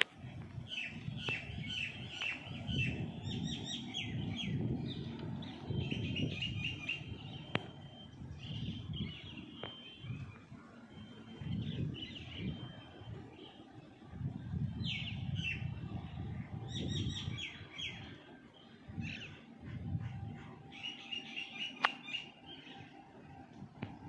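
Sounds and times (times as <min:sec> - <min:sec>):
birds chirping and calling: 0:00.6 - 0:13.7, 0:14.7 - 0:23.0.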